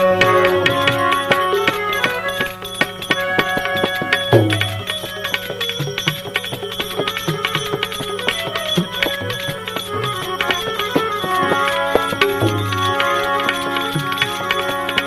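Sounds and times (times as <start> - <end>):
hand drum and small percussion: 0.0 - 15.0
sustained melodic instrument: 0.0 - 15.0.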